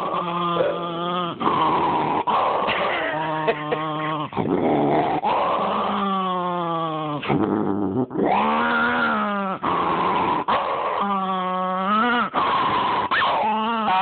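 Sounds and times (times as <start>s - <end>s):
small dog growling: 0.0s - 14.0s.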